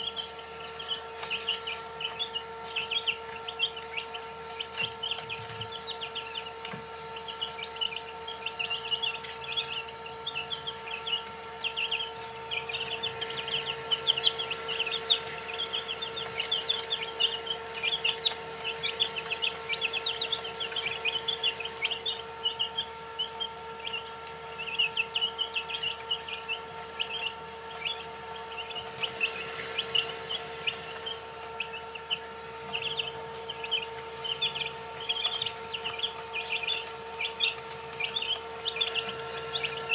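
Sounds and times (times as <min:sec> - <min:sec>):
chicks peeping: 0:00.0 - 0:39.9
steady electrical hum: 0:00.0 - 0:39.9.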